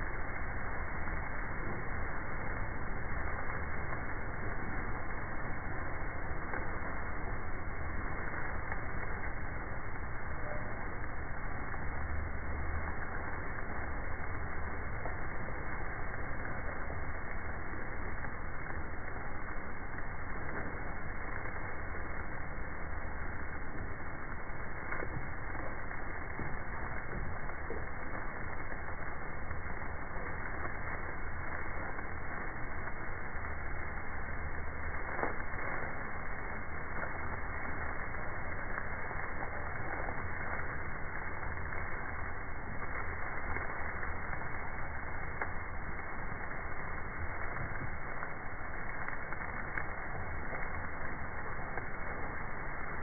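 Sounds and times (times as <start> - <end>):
crackle of dry stalks crushed: 0.0 - 53.0
low tractor hum: 0.0 - 53.0.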